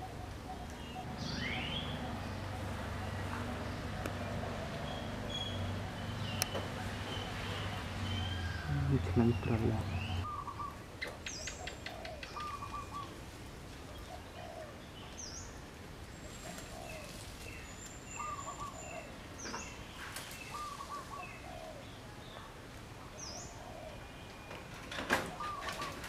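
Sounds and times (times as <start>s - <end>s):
birds calling: 0.0s - 13.2s, 13.9s - 26.0s
steady background hiss: 0.0s - 26.0s.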